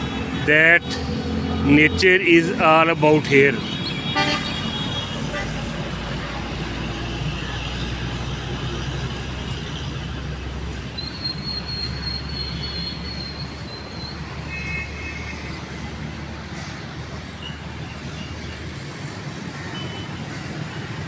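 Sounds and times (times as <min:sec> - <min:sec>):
vehicle traffic rumble: 0:00.0 - 0:21.0.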